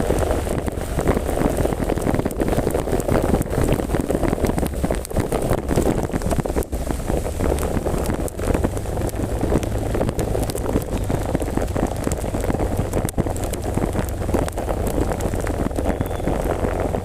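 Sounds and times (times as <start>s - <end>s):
heavy rain: 0.0s - 17.0s
wind buffeting microphone: 0.0s - 17.0s.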